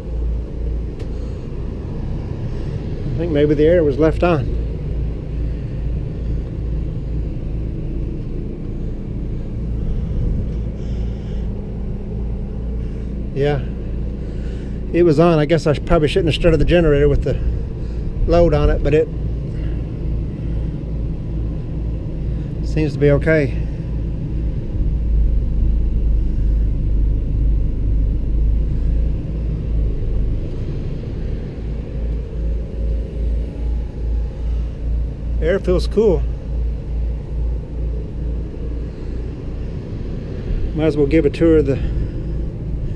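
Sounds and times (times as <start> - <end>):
generator running: 0.0 - 42.9.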